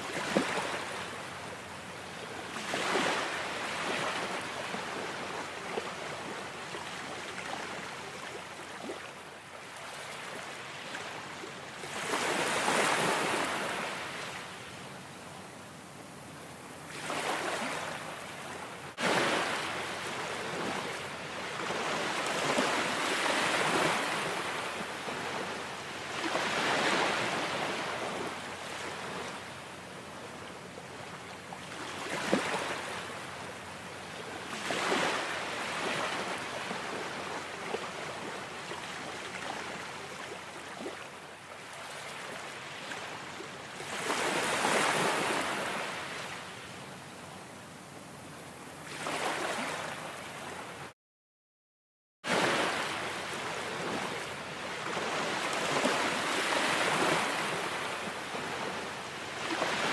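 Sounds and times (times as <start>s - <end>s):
ocean waves breaking on shore: 0.0s - 47.1s, 48.2s - 50.9s, 52.3s - 59.9s.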